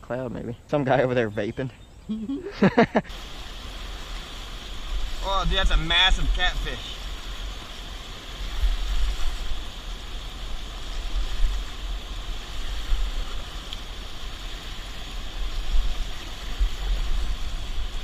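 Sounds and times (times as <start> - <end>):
river water flowing: 2.7 - 18.0
wind buffeting microphone: 3.2 - 18.0.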